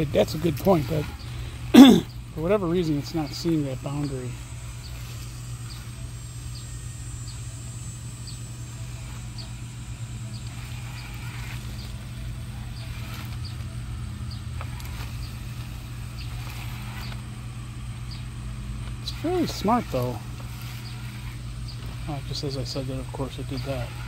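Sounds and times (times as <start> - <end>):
robot lawn mower humming: 0.0 - 24.0.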